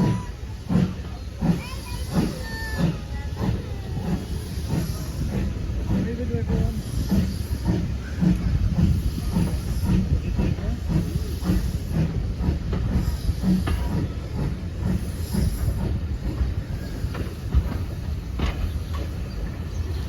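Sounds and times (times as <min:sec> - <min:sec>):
steam hiss: 0:00.0 - 0:20.0
train rolling rumble: 0:00.0 - 0:20.0.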